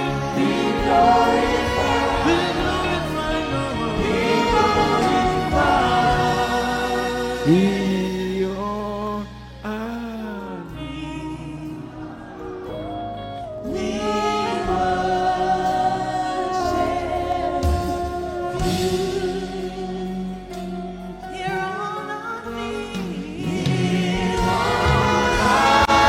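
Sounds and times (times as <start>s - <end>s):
choir singing gospel: 0.0s - 26.0s
instrumental accompaniment: 0.0s - 26.0s.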